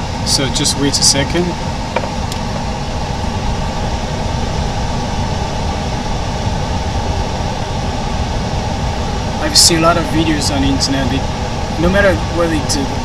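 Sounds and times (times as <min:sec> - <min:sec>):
background machinery hum and hiss: 0:00.0 - 0:13.0.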